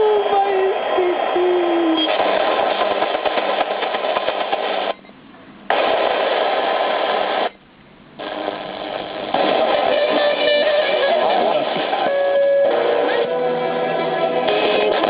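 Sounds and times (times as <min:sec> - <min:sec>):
radio static and hiss: 0:00.0 - 0:07.6, 0:08.2 - 0:15.0.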